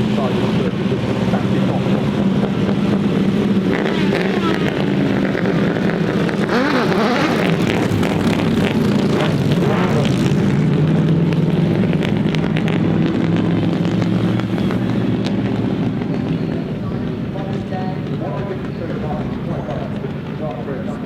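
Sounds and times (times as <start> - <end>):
vehicle engine running loudly: 0.0 - 21.0.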